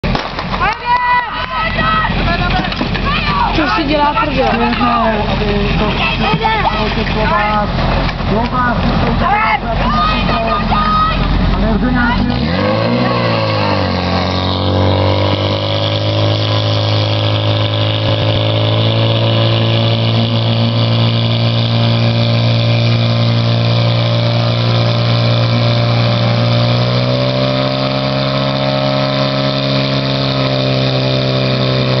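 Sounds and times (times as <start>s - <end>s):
fire pump engine running: 0.0s - 32.0s.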